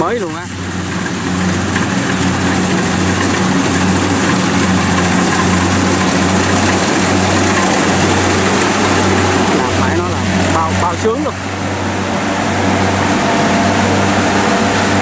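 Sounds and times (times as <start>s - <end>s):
diesel engine humming: 0.0s - 15.0s
threshing machinery rushing: 0.0s - 15.0s.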